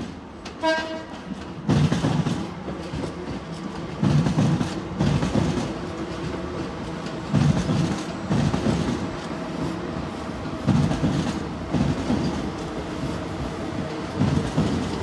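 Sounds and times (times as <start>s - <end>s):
train wheels clacking over rail joints: 0.0s - 9.3s, 10.4s - 12.8s, 14.0s - 15.0s
train rumble: 0.0s - 15.0s.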